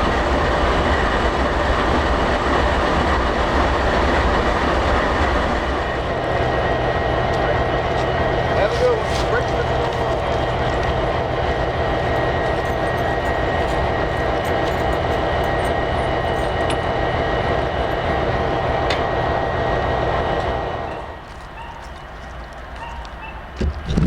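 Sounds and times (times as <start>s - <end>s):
diesel locomotive engine running: 0.0s - 24.0s.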